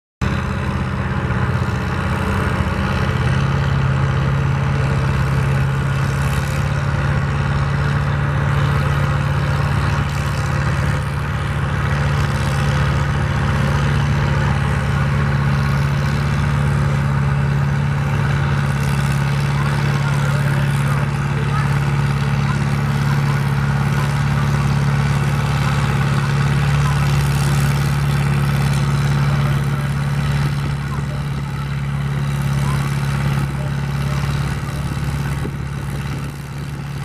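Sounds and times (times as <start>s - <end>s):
tractor engine running: 0.2s - 37.0s.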